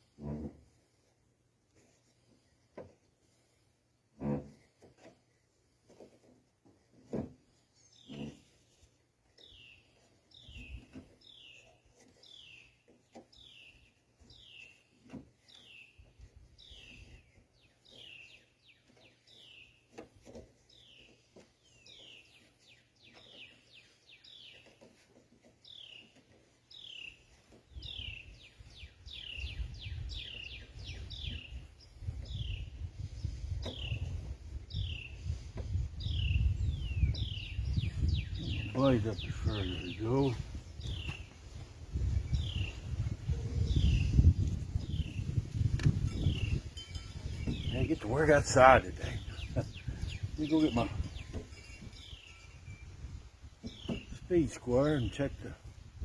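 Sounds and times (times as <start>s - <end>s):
songbird chirping: 5.9s - 55.9s.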